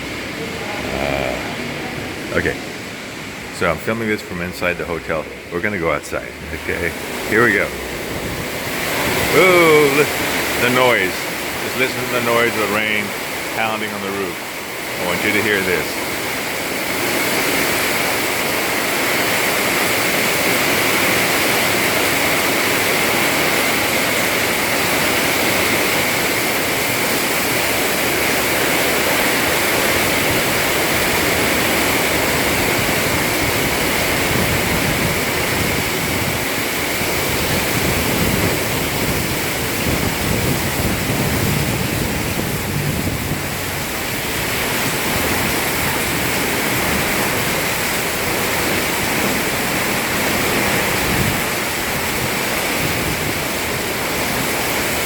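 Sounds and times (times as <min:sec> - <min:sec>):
heavy rain on a metal roof: 0:00.0 - 0:55.0.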